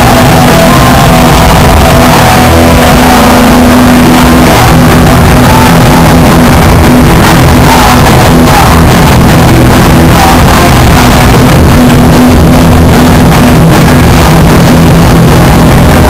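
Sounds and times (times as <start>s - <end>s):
punk band playing live: 0.0s - 16.0s.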